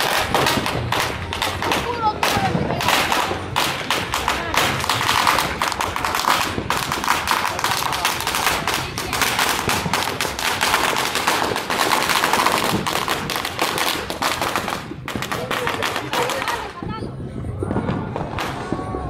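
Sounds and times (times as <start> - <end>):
firecrackers popping: 0.0 - 19.0.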